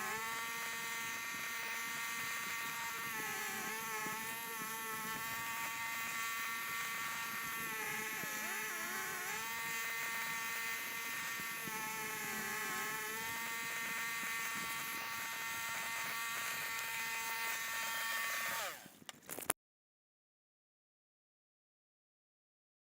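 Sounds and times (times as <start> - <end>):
small motor buzzing hum: 0.0 - 19.5.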